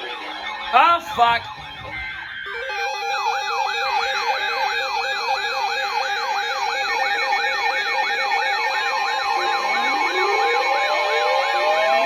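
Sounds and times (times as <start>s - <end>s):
electronic alarm siren: 0.0s - 12.0s.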